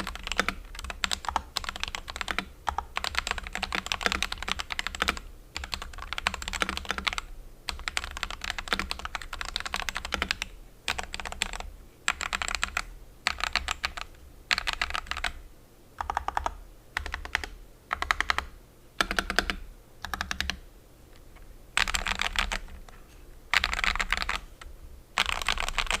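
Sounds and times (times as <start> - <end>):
mechanical keyboard typing: 0.0 - 15.4, 16.0 - 20.6, 21.8 - 22.9, 23.5 - 26.0.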